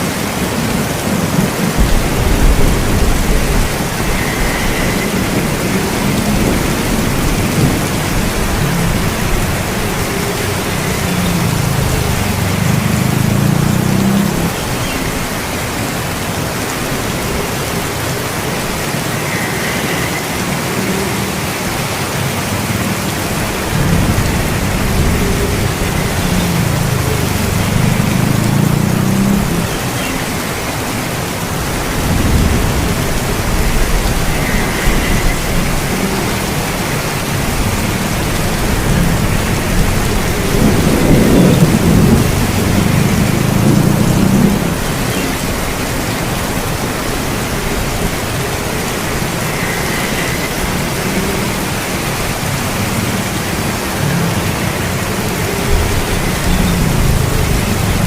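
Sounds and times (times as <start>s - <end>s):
heavy rain falling: 0.0s - 58.0s
thunder rumbling: 0.7s - 20.6s, 22.7s - 52.7s, 54.4s - 58.0s.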